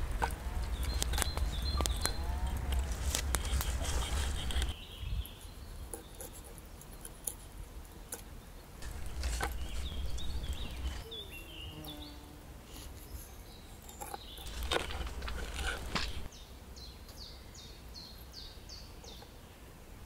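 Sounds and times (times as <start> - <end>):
birds chirping: 0.0 - 19.8.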